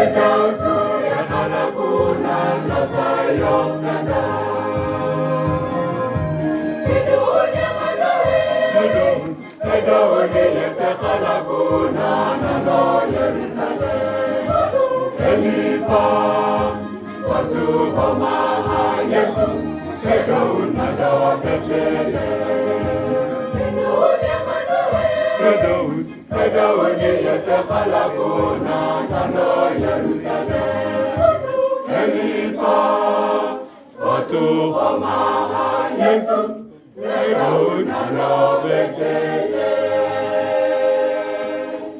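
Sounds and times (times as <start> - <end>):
choir singing a carol: 0.0 - 41.9.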